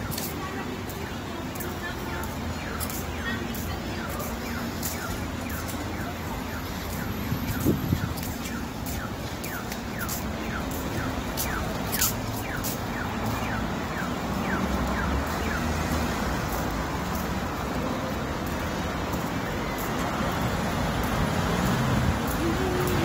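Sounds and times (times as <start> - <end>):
street traffic: 0.0 - 23.0.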